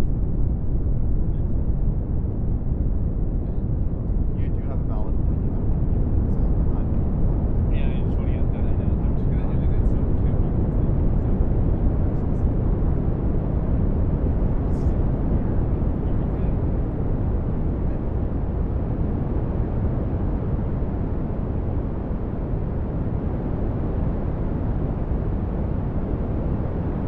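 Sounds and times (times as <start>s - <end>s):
deep rushing brown noise: 0.0s - 27.0s.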